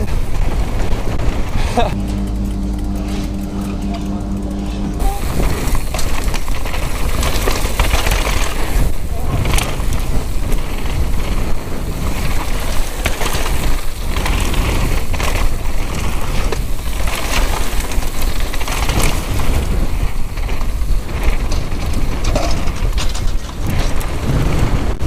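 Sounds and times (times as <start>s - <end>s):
chain and suspension rattling: 0.0s - 24.1s
bike tyres on dirt: 0.0s - 25.0s
wind buffeting microphone: 4.2s - 25.0s.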